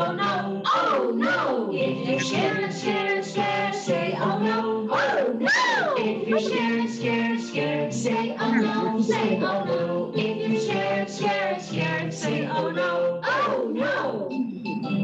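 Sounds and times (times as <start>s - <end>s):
children's song singing: 0.0s - 15.0s
musical accompaniment: 1.7s - 15.0s.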